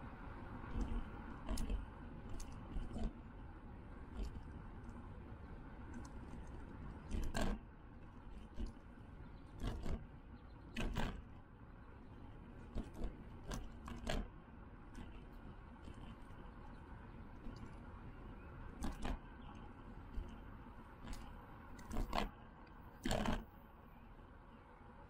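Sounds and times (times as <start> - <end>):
wind and rolling noise: 0.0 - 25.0.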